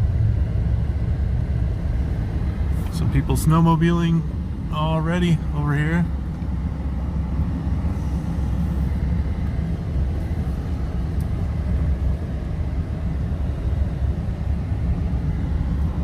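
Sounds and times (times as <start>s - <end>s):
pickup truck driving slowly: 0.0s - 16.0s.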